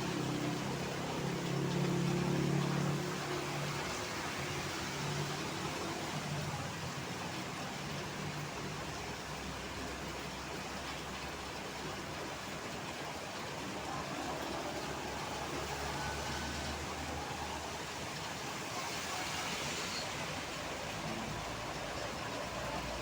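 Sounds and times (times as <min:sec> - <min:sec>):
heavy rain hiss: 0:00.0 - 0:23.0
traffic on wet roads: 0:00.0 - 0:23.0.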